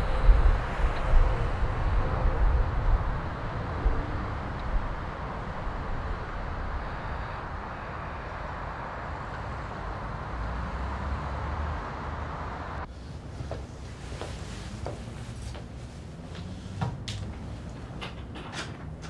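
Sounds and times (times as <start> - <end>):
low city rumble: 0.0 - 19.0.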